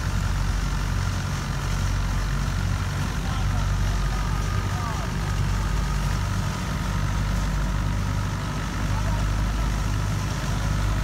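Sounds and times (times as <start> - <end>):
thresher running: 0.0 - 11.0
tractor diesel engine running: 0.0 - 11.0.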